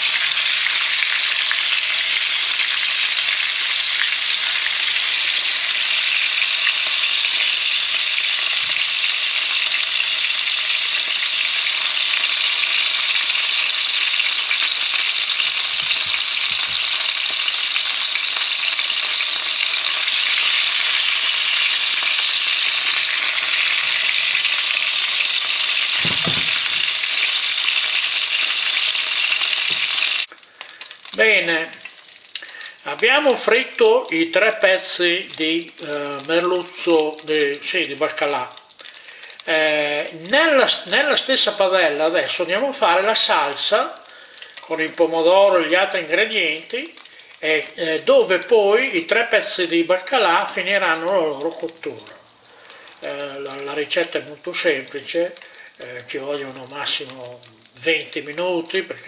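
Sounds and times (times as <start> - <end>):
oil sizzling in a frying pan: 0.0 - 59.0.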